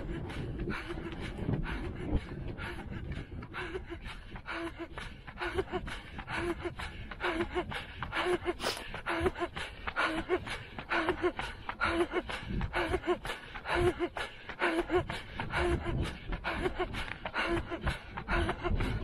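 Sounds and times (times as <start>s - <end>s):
runner breathing hard: 0.0s - 19.0s.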